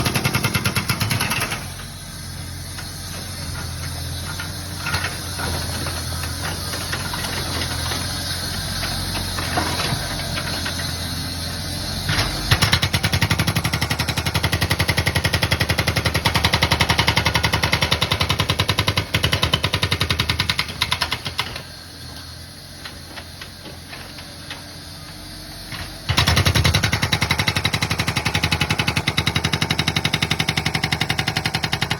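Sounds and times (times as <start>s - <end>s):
hydraulic breaker hammering concrete: 0.0s - 21.8s, 22.9s - 31.9s
excavator engine running: 0.0s - 31.9s.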